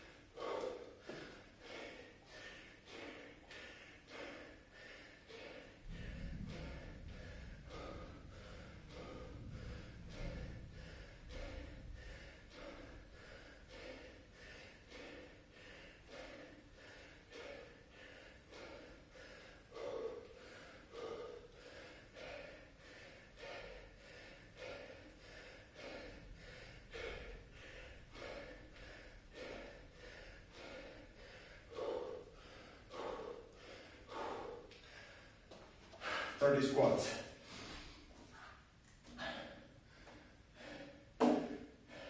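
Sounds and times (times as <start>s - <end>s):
man breathing hard: 0.0s - 42.0s.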